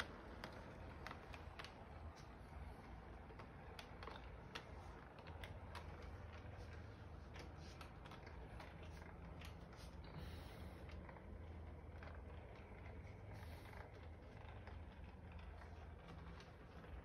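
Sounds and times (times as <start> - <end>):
toy train wheels clicking: 0.0 - 17.0.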